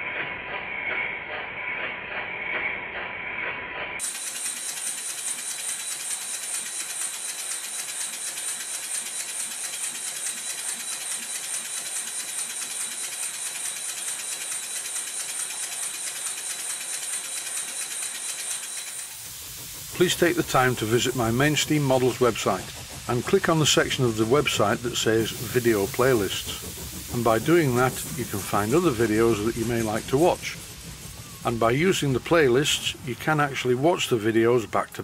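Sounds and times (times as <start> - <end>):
valve gear clatter: 4.0 - 34.4
model steam engine exhaust beats: 4.0 - 35.0.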